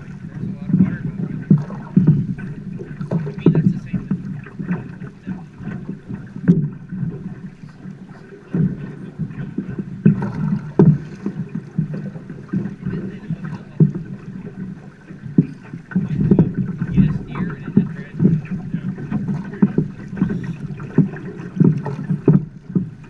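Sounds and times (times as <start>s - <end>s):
knocks from boat and oars: 0.0s - 23.0s
water slapping against boat hull: 0.0s - 23.0s
wind on microphone: 0.0s - 23.0s.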